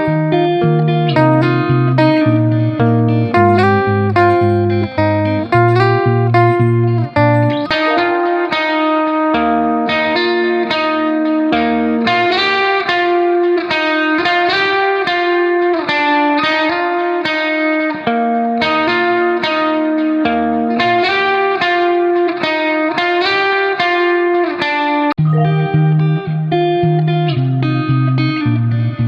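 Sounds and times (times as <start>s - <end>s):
picked guitar with effects: 0.0s - 29.0s.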